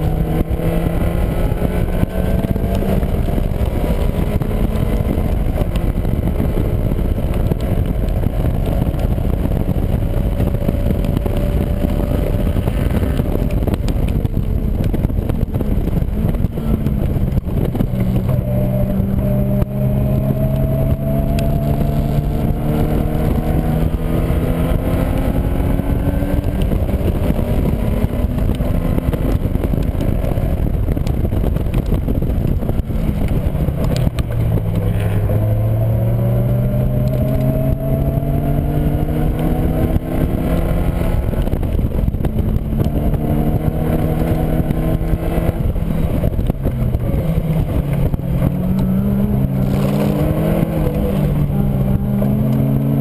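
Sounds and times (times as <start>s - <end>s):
car engine revving: 0.0s - 53.0s
heavy wind rush: 0.0s - 53.0s.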